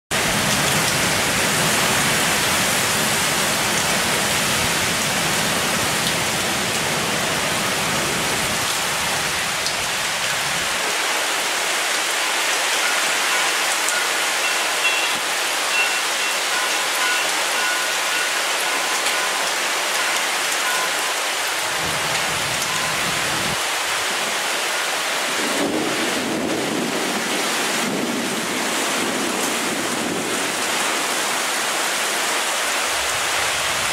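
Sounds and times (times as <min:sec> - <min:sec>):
torrential rain hissing: 0:00.1 - 0:33.9.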